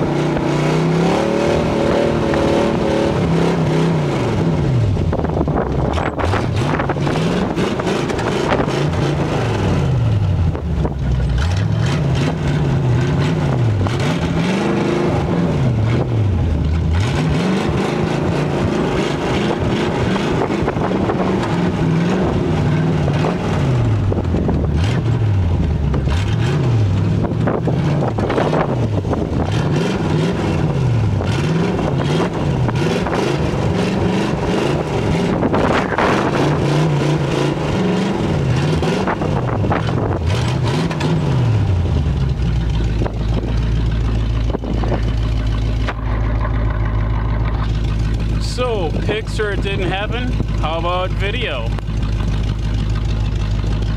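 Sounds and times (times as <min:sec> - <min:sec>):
car engine revving: 0:00.0 - 0:53.9
car engine idling: 0:01.5 - 0:53.9.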